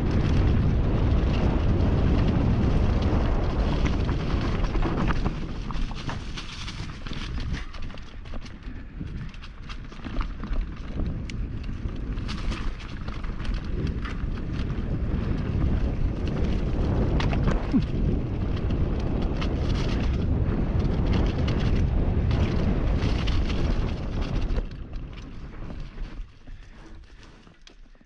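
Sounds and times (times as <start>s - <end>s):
wind buffeting microphone: 0.0s - 27.6s
bike clicking and rattling: 0.0s - 28.0s
bike tyres rumbling: 0.0s - 28.0s.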